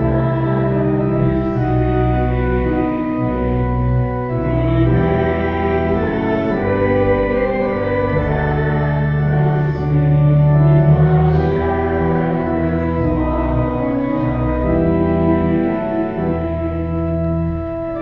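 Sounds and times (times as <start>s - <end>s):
church organ playing chords: 0.0s - 18.0s.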